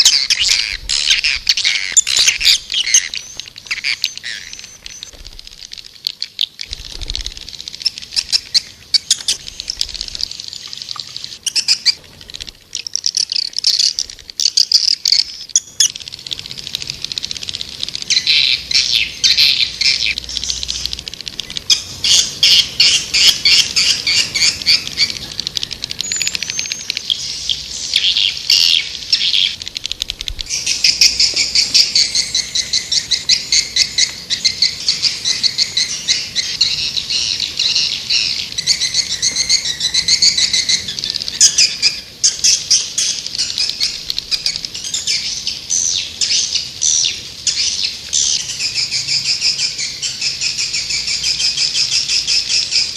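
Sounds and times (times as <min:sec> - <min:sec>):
swiftlets twittering: 0:00.0 - 0:45.3.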